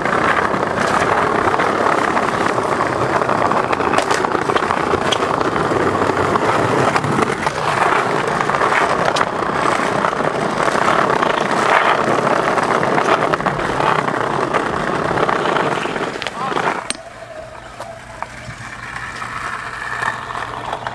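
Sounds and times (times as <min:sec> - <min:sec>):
skateboard wheels rolling on paving: 0:00.0 - 0:20.9.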